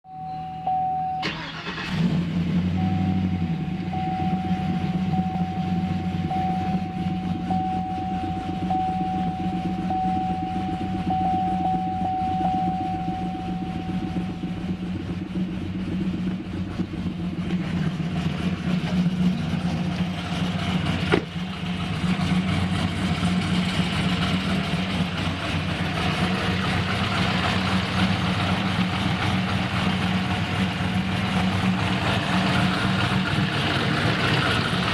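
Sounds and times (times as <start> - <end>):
engine starting and idling: 1.2 - 34.9.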